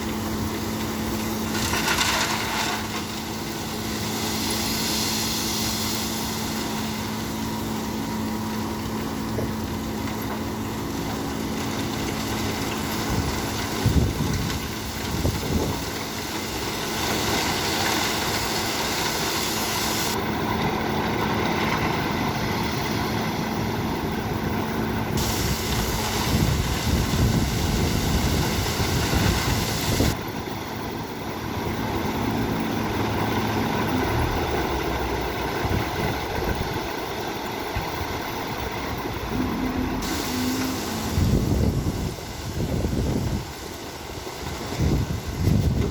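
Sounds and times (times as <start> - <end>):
heavy truck engine running: 0.0 - 45.9.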